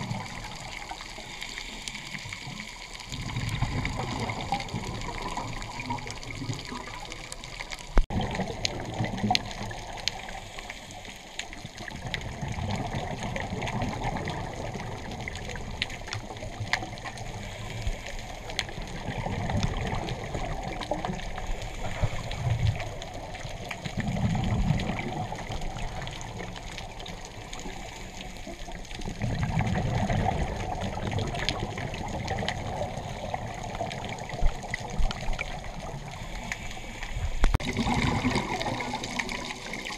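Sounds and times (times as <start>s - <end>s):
faint clicks and crackle: 0.0s - 39.9s
underwater bubbles gurgling: 0.0s - 39.9s.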